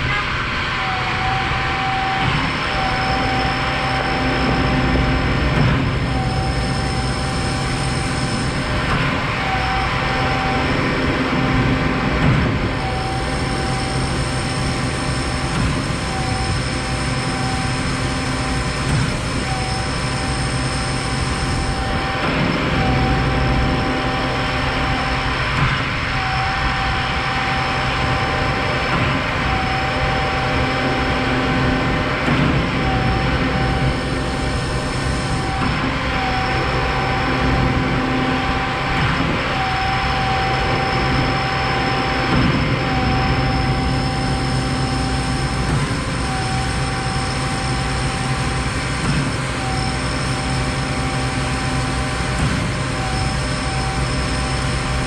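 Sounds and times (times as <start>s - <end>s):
concrete pump truck engine drone: 0.0s - 55.0s
pump whine: 0.0s - 55.0s.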